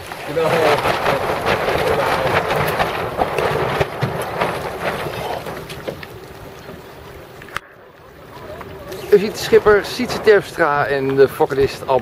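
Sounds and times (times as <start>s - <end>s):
water splashing around boat: 0.0s - 12.0s
wind buffeting microphone: 0.0s - 12.0s.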